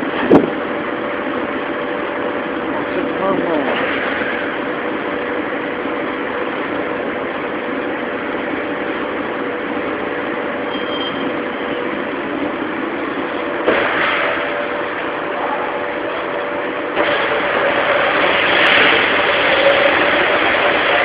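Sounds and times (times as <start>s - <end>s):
car wash machinery humming: 0.0s - 21.0s
rushing whirring noise: 0.0s - 21.0s.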